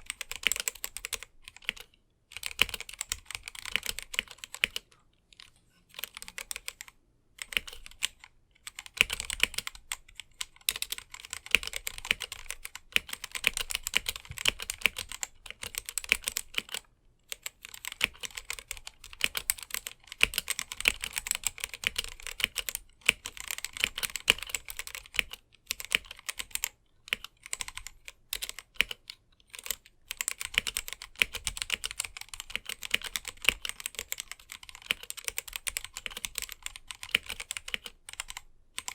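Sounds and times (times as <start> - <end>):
fast typing on mechanical keyboard: 0.0 - 4.9, 6.0 - 38.9.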